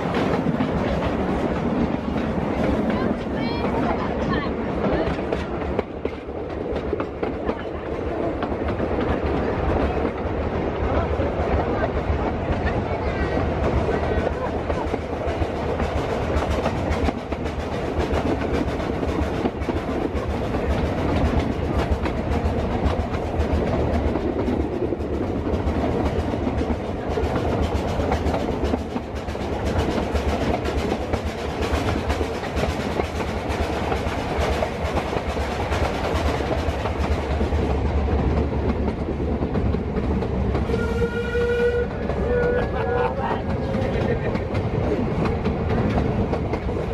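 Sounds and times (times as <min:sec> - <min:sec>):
train rumble and rattle: 0:00.0 - 0:46.9.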